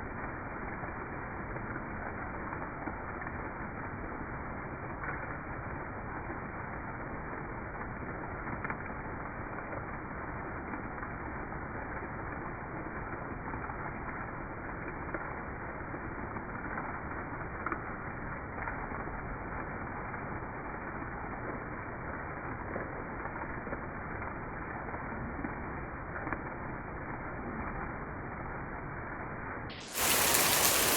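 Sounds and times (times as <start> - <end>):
steady rain hissing: 0.0 - 30.9
raindrop ticks: 0.6 - 28.0, 29.7 - 30.9.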